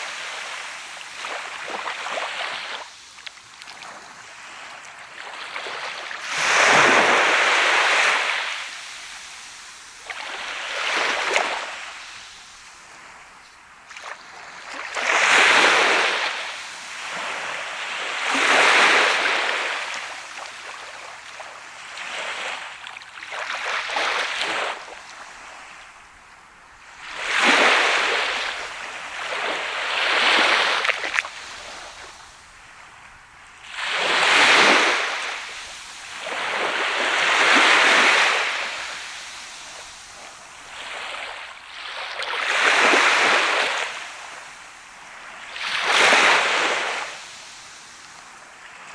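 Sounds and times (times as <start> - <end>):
sea waves breaking on beach: 0.0 - 48.9.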